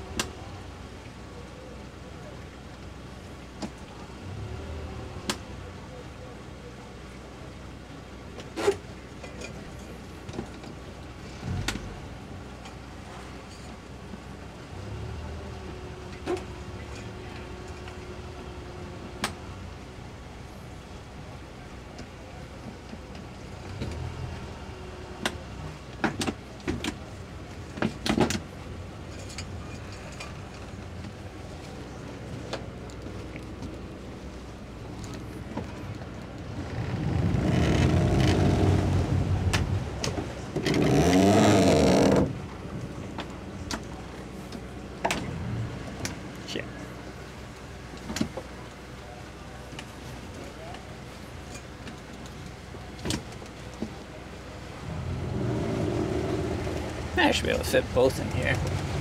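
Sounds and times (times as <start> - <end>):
outboard engines humming: 0.0 - 59.0.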